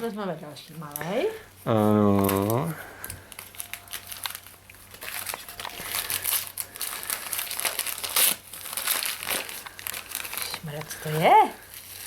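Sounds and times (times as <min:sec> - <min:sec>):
wrapping paper crinkling: 0:02.0 - 0:12.0.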